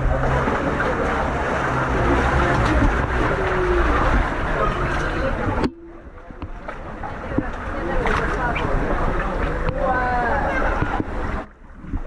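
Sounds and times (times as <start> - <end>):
boat engine running: 0.0 - 11.6
rush of wind and water: 0.0 - 12.0.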